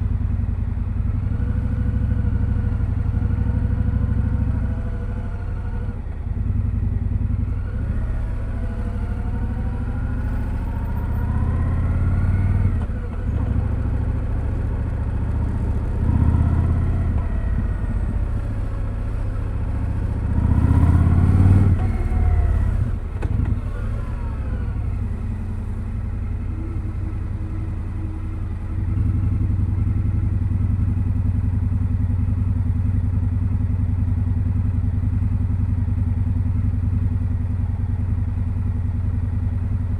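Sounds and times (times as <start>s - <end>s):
motorcycle engine revving: 0.0s - 39.8s.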